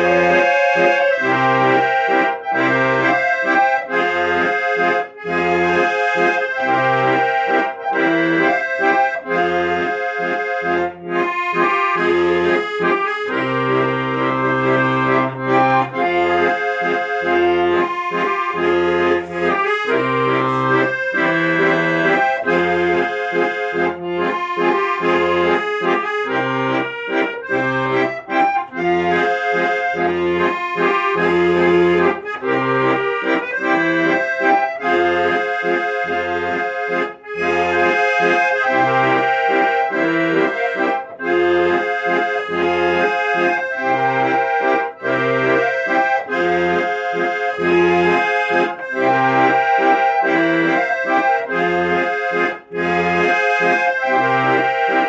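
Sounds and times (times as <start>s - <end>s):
accordion playing a tune: 0.0s - 55.0s.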